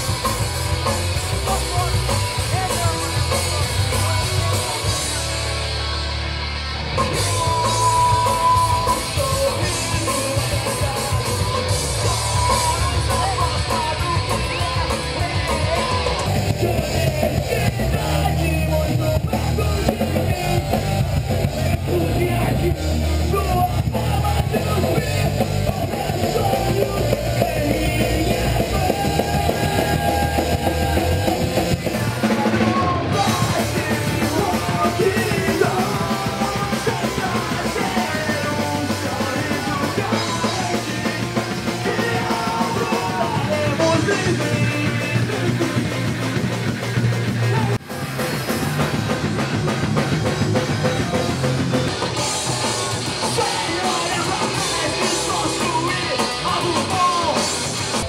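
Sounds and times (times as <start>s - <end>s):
vocals: 0.0s - 5.8s, 6.8s - 58.0s
punk rock band playing live: 0.0s - 58.0s.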